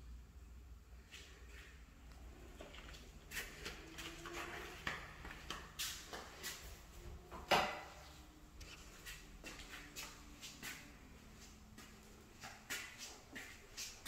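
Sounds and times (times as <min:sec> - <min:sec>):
footsteps on tiled floor: 0:01.1 - 0:14.0.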